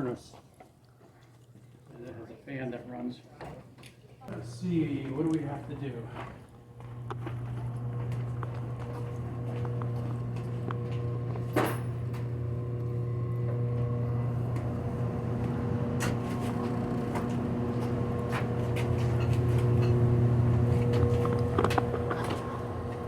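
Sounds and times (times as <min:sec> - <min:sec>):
furnace fan humming: 0:04.3 - 0:23.0.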